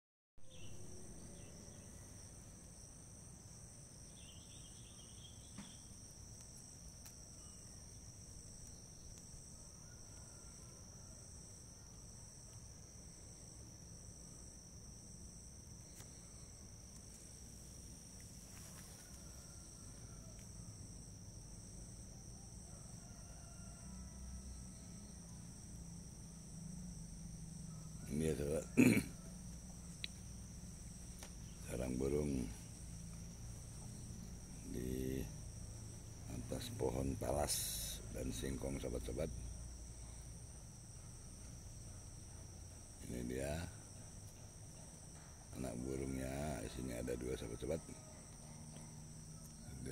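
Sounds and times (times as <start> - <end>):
insect trilling: 0.4 - 49.9.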